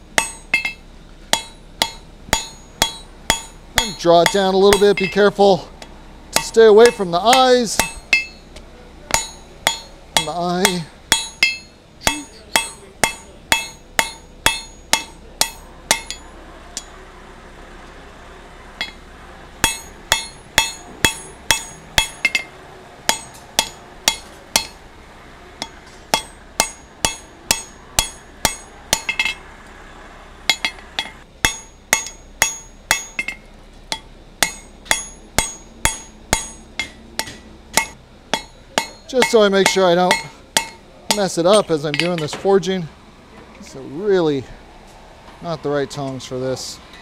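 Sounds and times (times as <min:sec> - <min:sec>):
hammer striking steel on anvil: 0:00.0 - 0:17.0, 0:18.8 - 0:19.0, 0:19.6 - 0:24.8, 0:25.6 - 0:29.5, 0:30.5 - 0:42.4.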